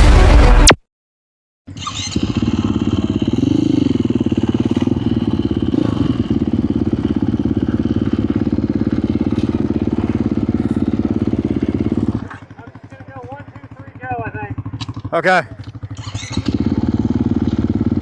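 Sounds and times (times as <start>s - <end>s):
dirt bike engine idling: 1.7s - 18.0s.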